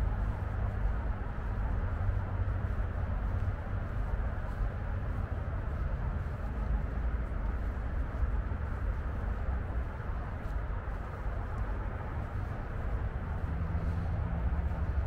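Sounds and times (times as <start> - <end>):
distant road traffic rumble: 0.0 - 15.0.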